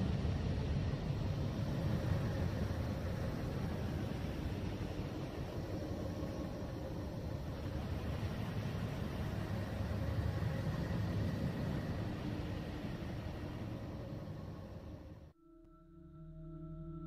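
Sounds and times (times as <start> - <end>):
faint steady hum tones: 0.0 - 17.0.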